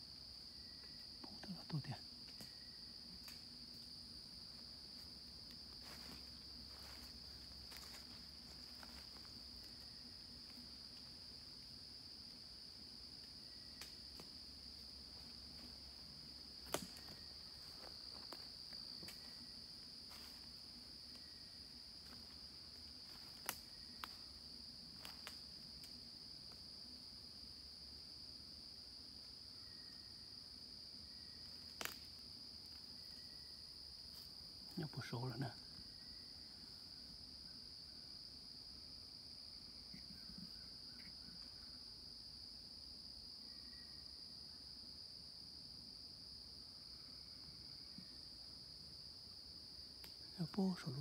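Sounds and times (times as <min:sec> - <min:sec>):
crickets chirping: 0:00.0 - 0:51.0.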